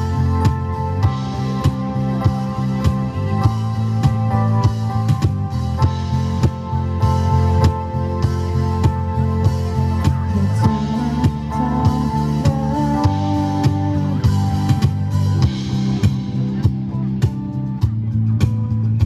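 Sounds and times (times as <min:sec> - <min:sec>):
bass: 0:00.0 - 0:19.0
drums keeping a steady beat: 0:00.0 - 0:19.0
guitar: 0:00.0 - 0:19.0.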